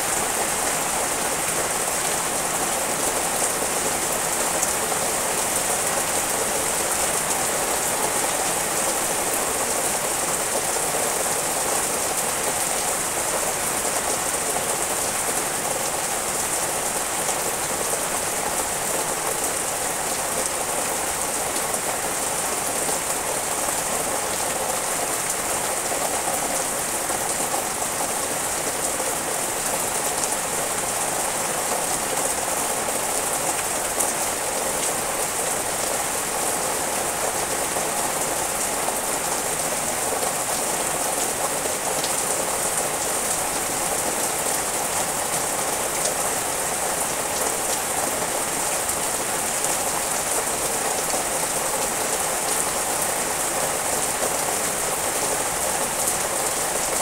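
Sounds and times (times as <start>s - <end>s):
rain falling on trees: 0.0s - 57.0s.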